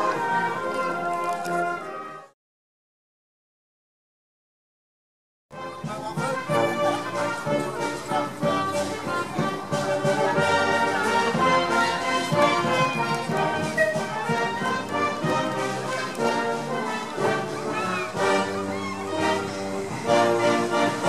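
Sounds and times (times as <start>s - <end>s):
orchestral music with brass: 0.0s - 2.4s, 5.5s - 21.0s.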